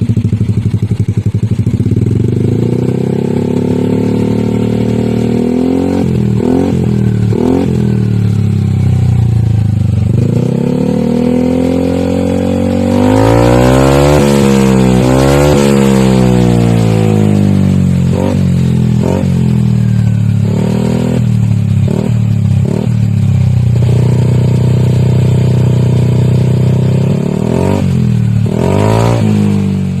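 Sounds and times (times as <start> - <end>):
scooter engine revving: 0.0 - 30.0.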